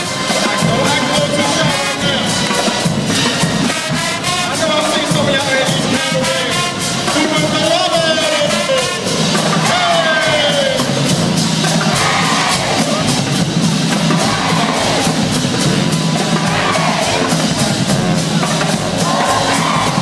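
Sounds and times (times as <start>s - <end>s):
brass horns: 0.0s - 20.0s
drumline beat: 0.0s - 20.0s.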